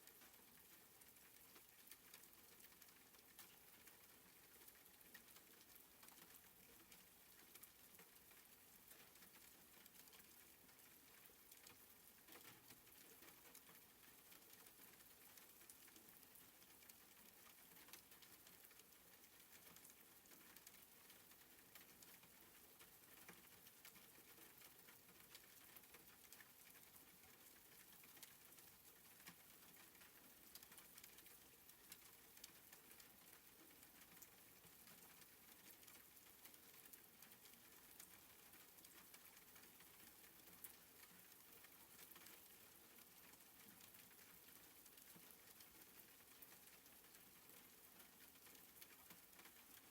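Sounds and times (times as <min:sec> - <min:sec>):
raindrops ticking: 0:00.0 - 0:49.9
soft rain hiss: 0:00.0 - 0:49.9.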